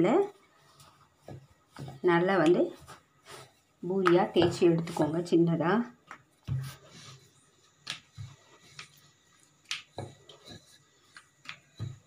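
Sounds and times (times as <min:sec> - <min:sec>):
rolling pin rolling dough: 0:00.0 - 0:12.0.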